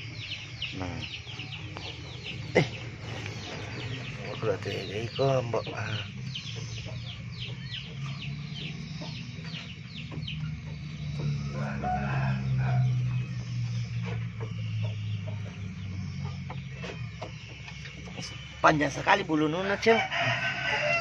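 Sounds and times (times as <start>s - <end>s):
chickens peeping: 0.0s - 21.0s
steady low hum: 0.0s - 21.0s.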